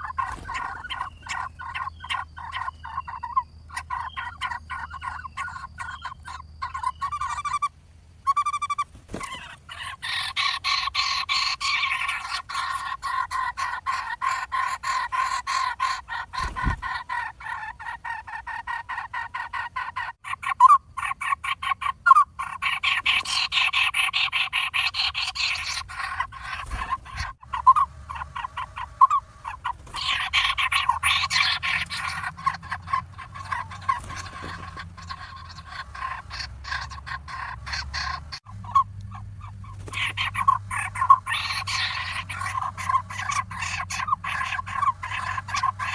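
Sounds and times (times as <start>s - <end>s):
woodpecker nestlings begging chatter: 0.0s - 7.7s, 8.3s - 45.9s.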